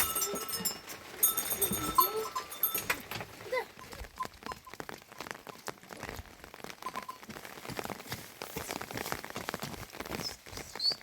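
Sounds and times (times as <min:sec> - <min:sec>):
rain pattering on a surface: 0:00.0 - 0:11.0.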